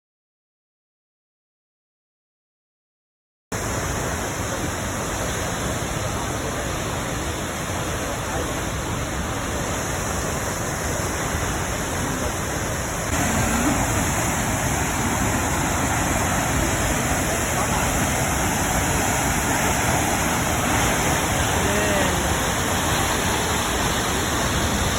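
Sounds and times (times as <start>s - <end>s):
waterfall rushing: 3.6s - 24.9s.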